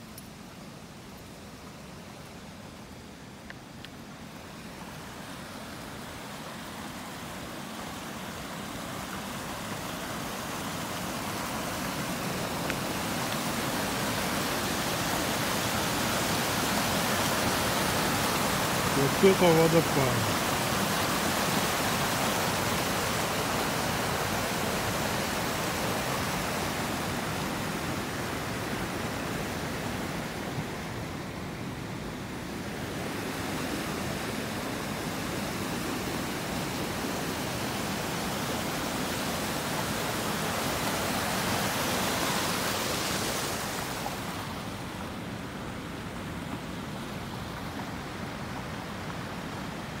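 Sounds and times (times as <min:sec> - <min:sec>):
water rushing over outlet: 0:01.5 - 0:50.0.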